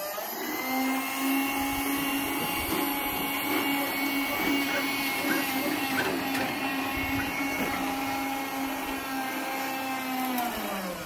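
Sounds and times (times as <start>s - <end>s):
hydraulic pump motor whine: 0.0s - 11.0s.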